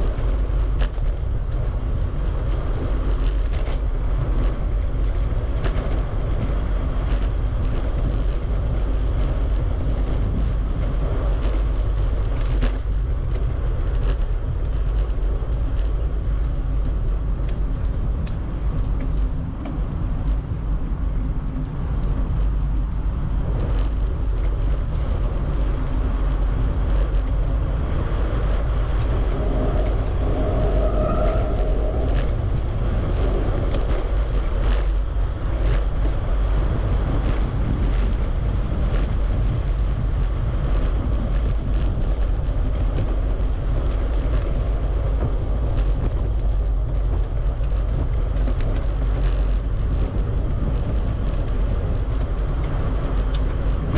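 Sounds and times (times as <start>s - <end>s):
bicycle tyre noise on path: 0.0s - 53.9s
wind rushing over microphone: 0.0s - 53.9s.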